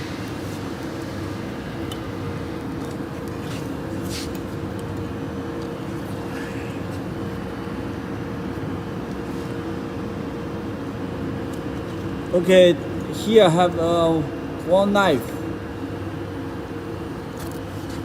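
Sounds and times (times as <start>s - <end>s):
machine humming: 0.0s - 17.4s.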